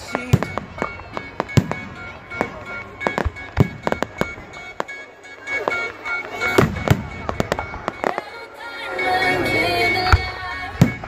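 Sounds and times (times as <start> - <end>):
fireworks bangs and crackles: 0.0 - 8.8, 10.0 - 11.0
music: 0.0 - 11.0.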